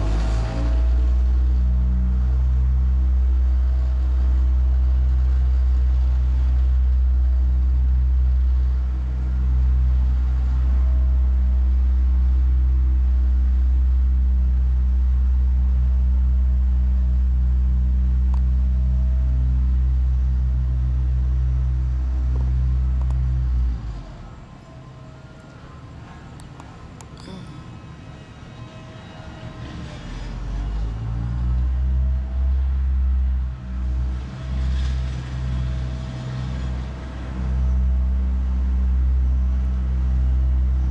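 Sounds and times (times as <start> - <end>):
deep engine rumble: 0.0 - 40.9
low hum: 0.0 - 40.9.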